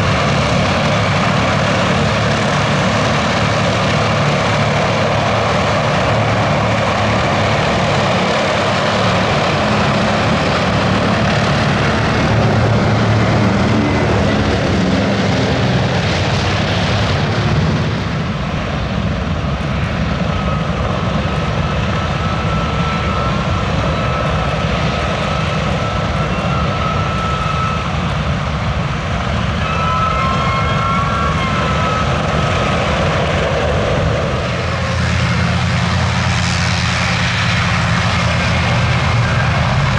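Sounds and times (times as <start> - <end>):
four radial piston engines: 0.0 - 39.9
twin radial piston engines running: 0.0 - 39.9.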